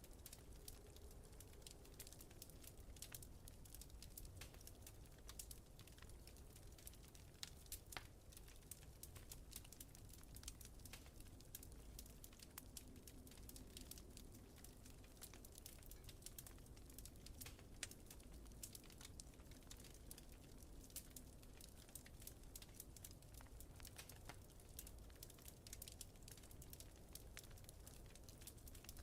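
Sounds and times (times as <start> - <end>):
fire pops and snaps: 0.0 - 29.0
wood fire crackling: 0.0 - 29.0.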